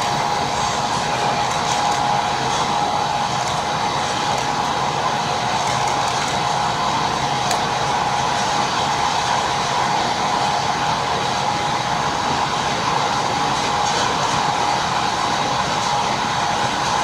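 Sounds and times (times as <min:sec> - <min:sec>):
electric train running: 0:00.0 - 0:17.0.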